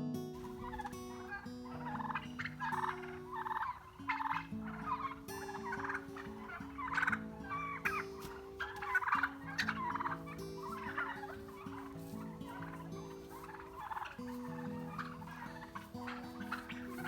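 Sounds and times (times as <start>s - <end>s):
turkeys chirping: 0.4s - 17.0s.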